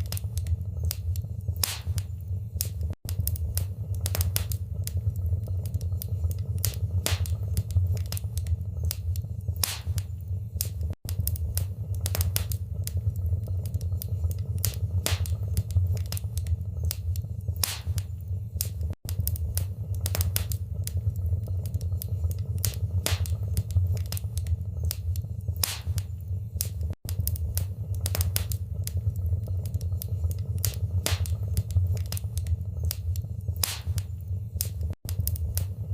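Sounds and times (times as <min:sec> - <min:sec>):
low rumble of flames: 0:00.0 - 0:35.9
wood fire crackling and popping: 0:00.0 - 0:35.9.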